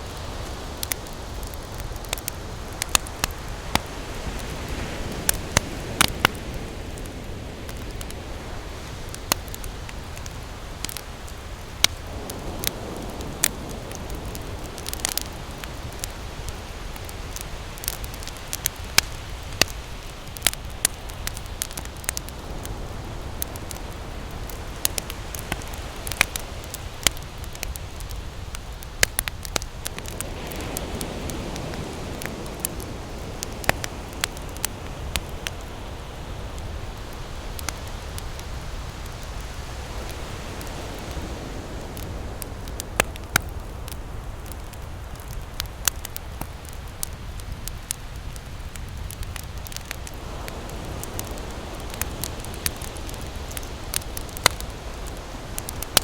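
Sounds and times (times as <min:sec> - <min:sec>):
campfire crackling and popping: 0:00.0 - 0:56.0
ocean surf rumble: 0:00.0 - 0:56.0
waves washing in: 0:00.0 - 0:56.0.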